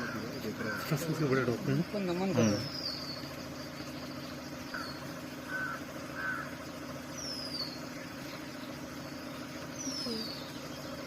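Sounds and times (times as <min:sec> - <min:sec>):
harsh bird calls: 0:00.0 - 0:11.0
vehicle engine idling: 0:00.0 - 0:11.0.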